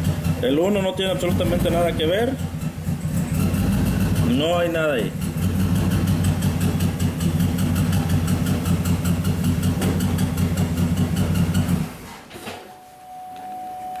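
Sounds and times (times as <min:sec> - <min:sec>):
misfiring engine idling: 0:00.0 - 0:12.1.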